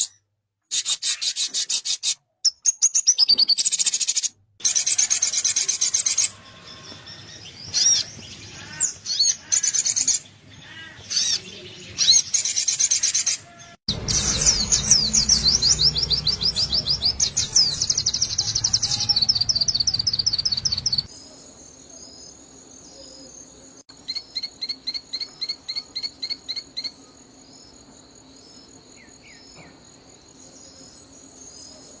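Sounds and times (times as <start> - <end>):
bird chirps and trills: 0.0 - 32.0.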